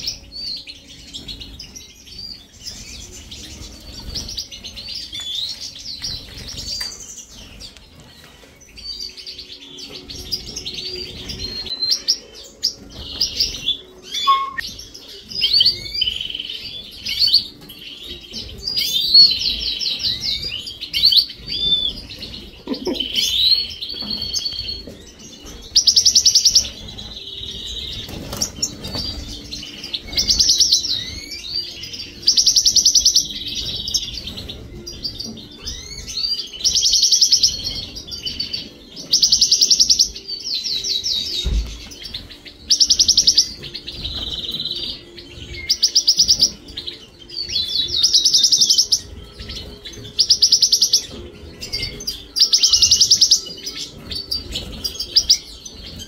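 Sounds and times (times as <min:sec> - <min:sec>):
caged songbirds chirping and singing: 0:00.0 - 0:56.0.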